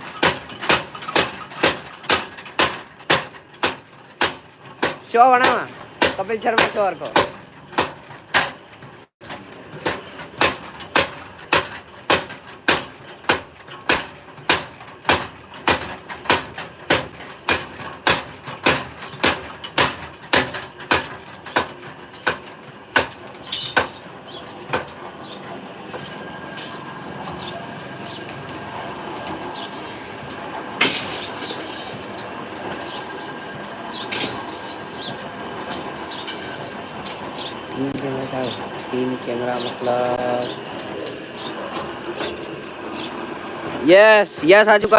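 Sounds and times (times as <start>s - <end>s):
metallic clanks: 0.0s - 43.2s.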